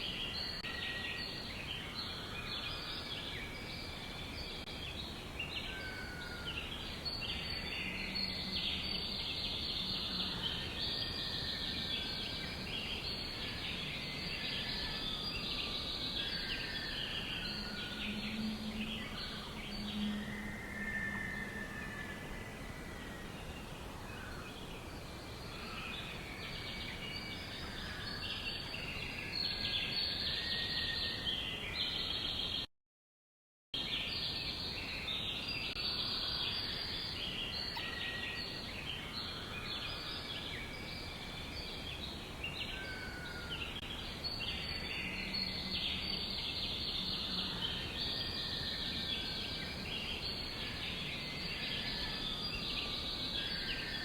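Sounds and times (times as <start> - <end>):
steady background hiss: 0.0 - 32.6, 33.8 - 54.0.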